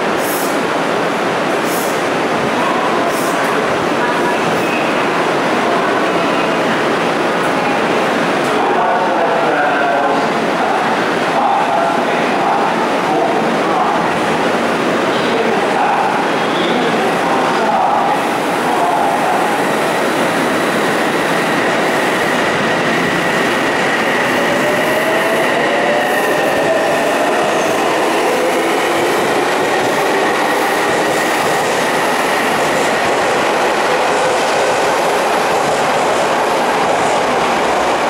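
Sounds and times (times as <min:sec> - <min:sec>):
train wheels rolling on rails: 0:00.0 - 0:38.0.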